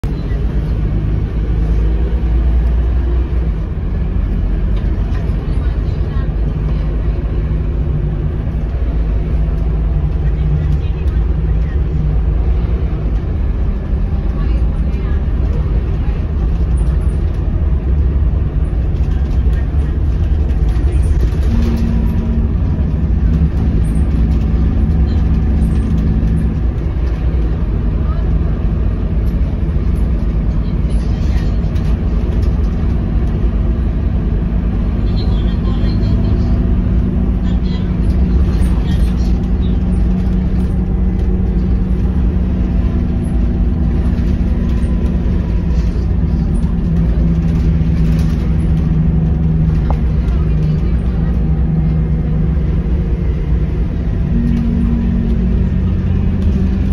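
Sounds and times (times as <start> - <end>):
bus diesel engine rumble: 0.0 - 56.9.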